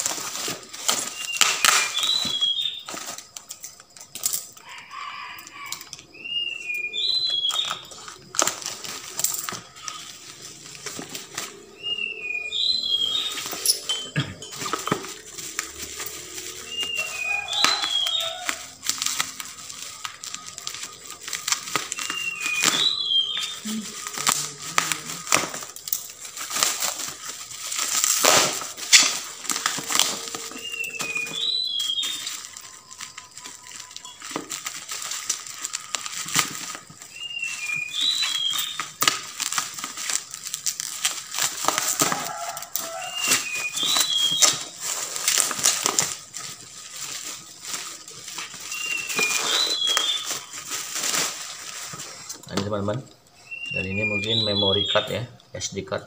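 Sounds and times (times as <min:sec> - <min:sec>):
bubble wrap crinkling: 0:00.0 - 0:56.0.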